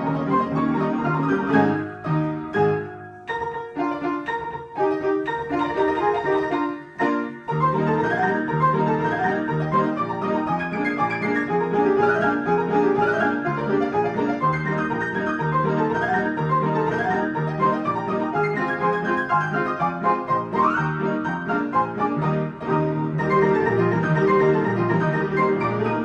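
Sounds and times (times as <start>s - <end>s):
player piano playing a march: 0.0s - 26.0s.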